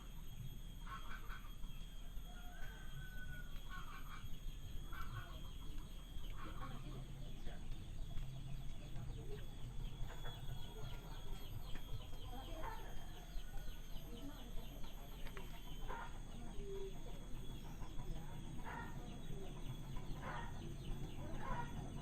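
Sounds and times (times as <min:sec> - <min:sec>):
chickens clucking: 0:00.0 - 0:22.0
steady high tone: 0:00.0 - 0:22.0.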